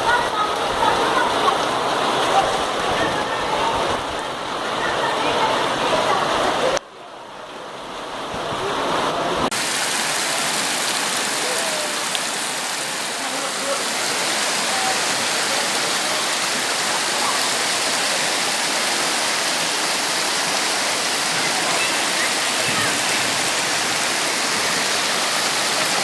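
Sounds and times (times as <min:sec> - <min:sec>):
heavy rain downpour: 0:00.0 - 0:26.0.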